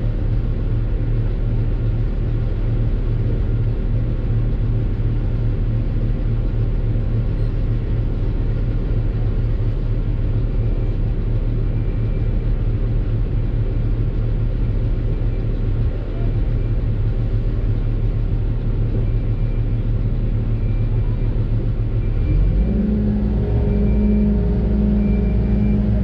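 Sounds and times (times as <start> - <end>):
excavator diesel engine drone: 0.0 - 26.0.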